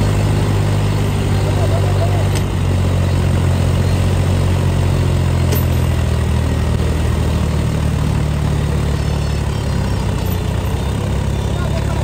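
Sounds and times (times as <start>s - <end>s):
diesel tractor engines droning: 0.0s - 12.0s.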